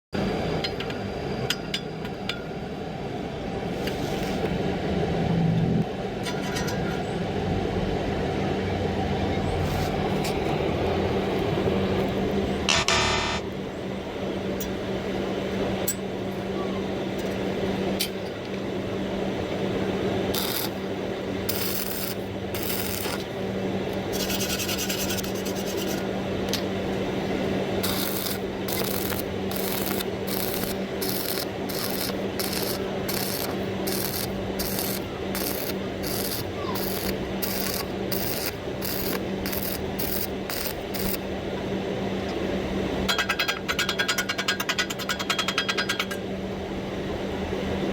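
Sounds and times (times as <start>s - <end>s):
steady hum: 0.2s - 44.0s.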